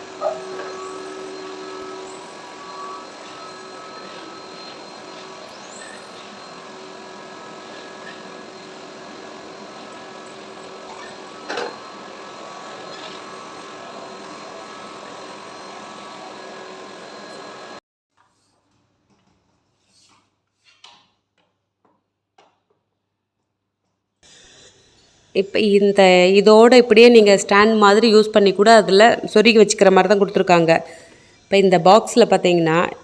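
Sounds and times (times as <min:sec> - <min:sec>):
vacuum cleaner running: 0:00.0 - 0:17.8, 0:24.2 - 0:33.0.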